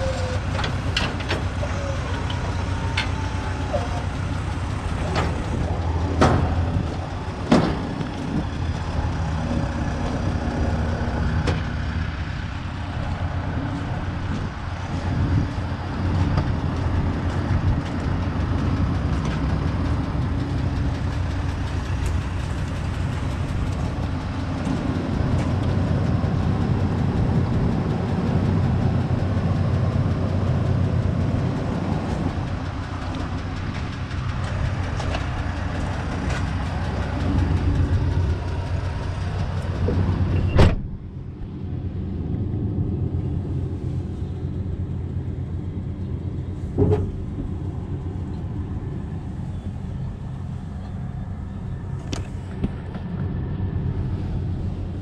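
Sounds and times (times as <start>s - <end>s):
pickup engine idling: 0.0s - 40.4s, 41.0s - 55.0s.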